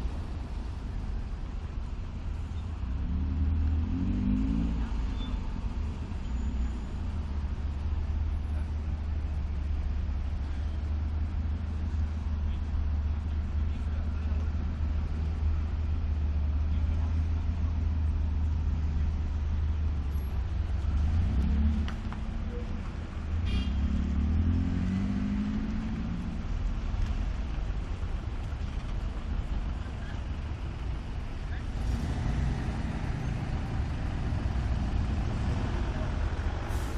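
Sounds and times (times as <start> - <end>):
motor vehicle engines rumbling: 0.0 - 36.9.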